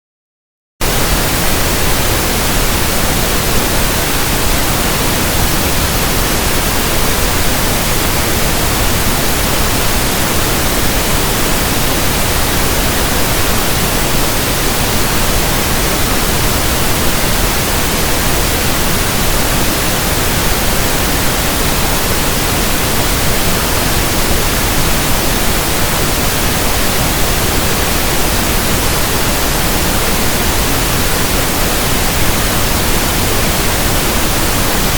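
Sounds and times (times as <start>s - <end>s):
pink noise hiss: 0.8s - 34.9s.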